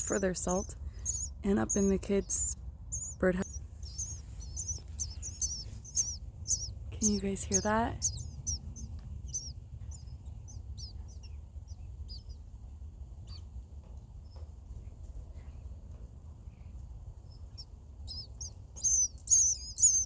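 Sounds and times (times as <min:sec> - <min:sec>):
baby birds chirping: 0:00.0 - 0:15.6, 0:16.5 - 0:20.0.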